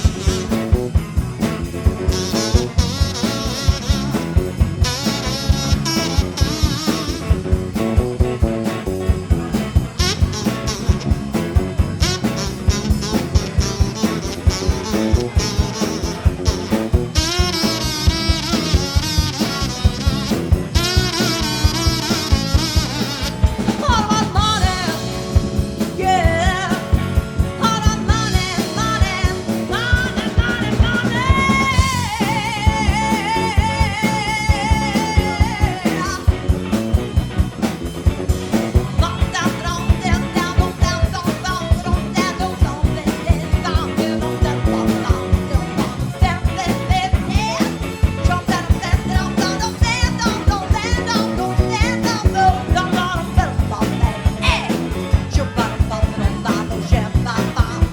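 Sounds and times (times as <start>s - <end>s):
blues-rock band playing: 0.0s - 57.9s
drum kit beat: 0.0s - 57.9s
wavering lead melody: 0.0s - 57.9s.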